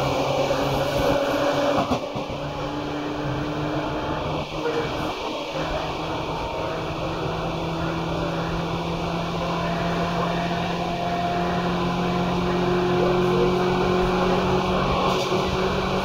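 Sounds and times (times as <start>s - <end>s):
electric train running hum: 0.0s - 16.0s.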